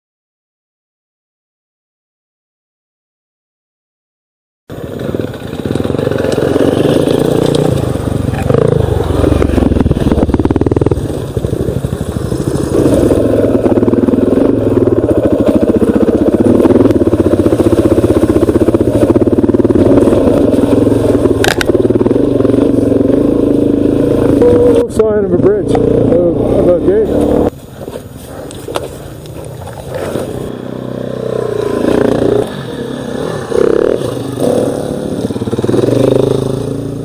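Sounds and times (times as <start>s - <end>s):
dirt bike engine running: 4.7s - 37.0s.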